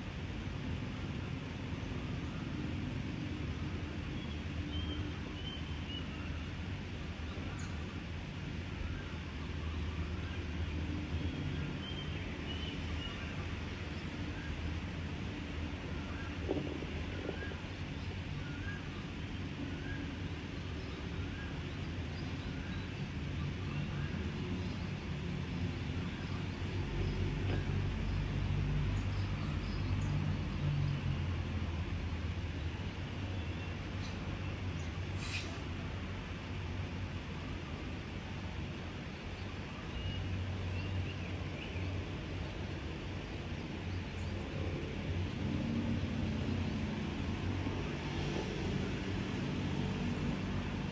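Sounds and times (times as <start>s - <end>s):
outdoor background noise: 0.0s - 50.9s.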